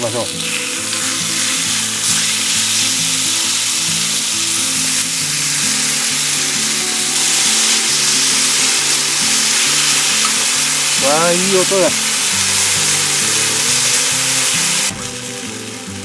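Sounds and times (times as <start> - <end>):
background music low notes: 0.0 - 16.0
food sizzling on griddle: 0.0 - 16.0.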